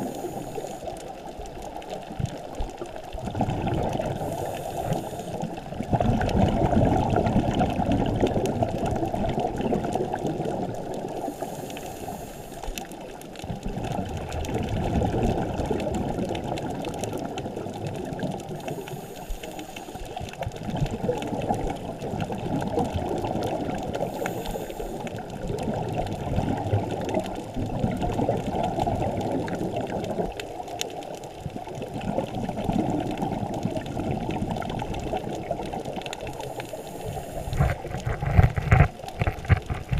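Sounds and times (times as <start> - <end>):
underwater bubbling: 0.0 - 39.9.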